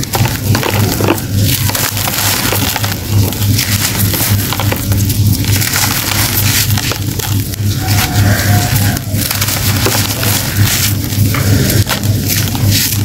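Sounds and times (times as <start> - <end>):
hands crumbling compressed sand: 0.0 - 13.0
steady low hum: 0.0 - 13.0.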